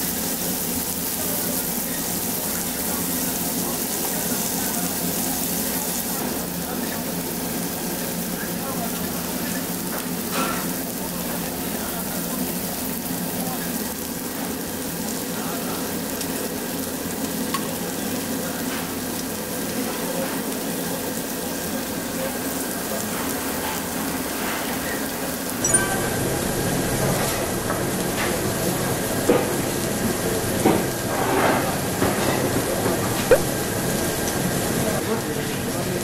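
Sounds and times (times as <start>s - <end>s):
meat sizzling on grill: 0.0s - 36.0s.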